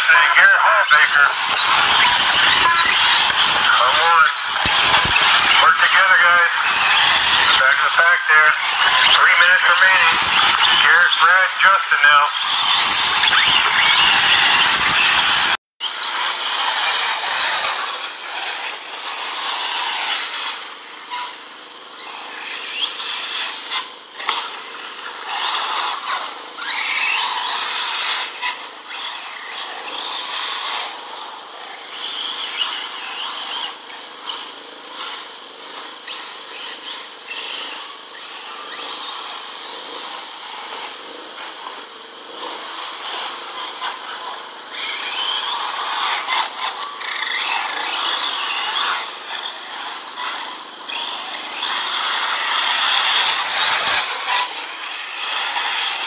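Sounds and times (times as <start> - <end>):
rc car motors buzzing and whining: 0.0 - 56.0.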